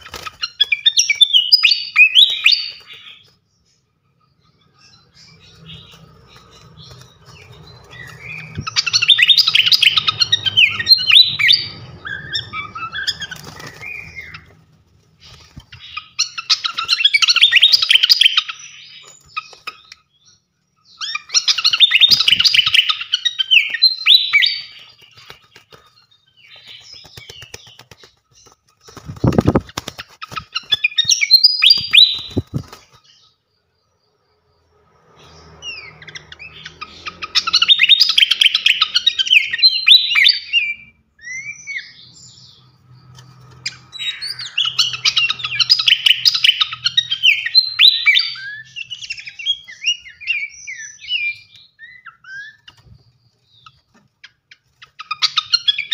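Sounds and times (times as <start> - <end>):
songbird chirps and trills: 0.0 - 55.9.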